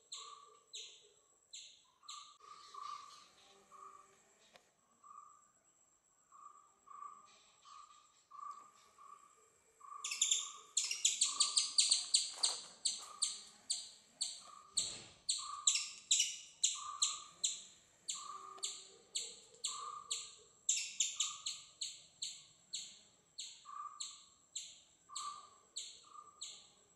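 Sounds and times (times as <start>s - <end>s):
bird chirping: 0.0s - 5.6s, 6.3s - 26.9s.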